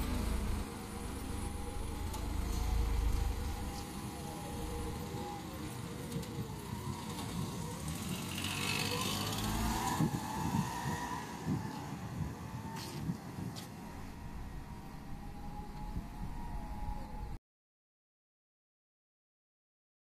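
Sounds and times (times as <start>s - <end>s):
small van driving off: 0.0s - 17.4s.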